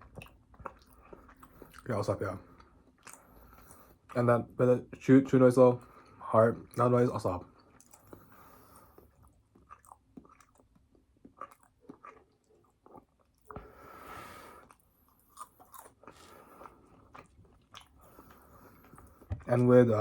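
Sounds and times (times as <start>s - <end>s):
mouth chewing food: 0.0s - 5.0s, 5.8s - 20.0s.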